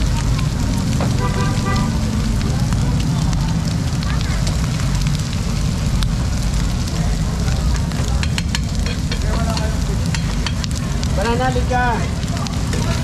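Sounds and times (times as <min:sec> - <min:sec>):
low rumble: 0:00.0 - 0:13.0
meat sizzling on hot plates: 0:00.0 - 0:13.0.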